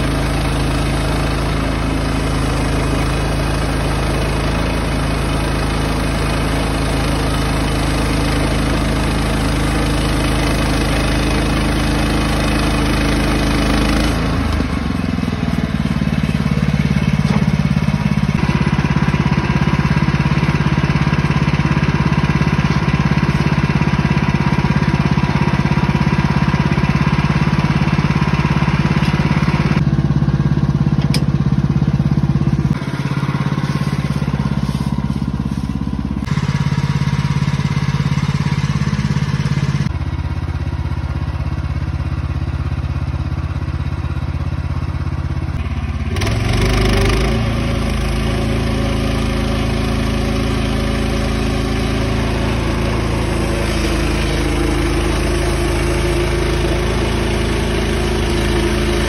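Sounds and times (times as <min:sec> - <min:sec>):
bandsaw sawmill engine running: 0:00.0 - 0:59.0.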